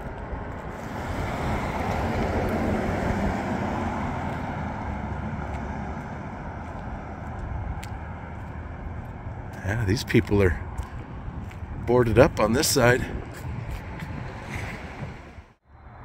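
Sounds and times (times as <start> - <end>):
car passing: 0.0 - 16.0
wind rumble on microphone: 0.0 - 16.0.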